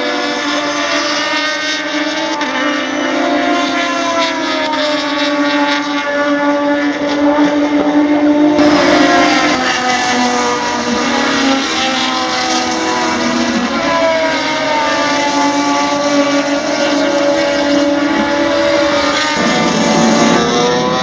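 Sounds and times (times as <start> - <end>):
racing car engines: 0.0 - 21.0.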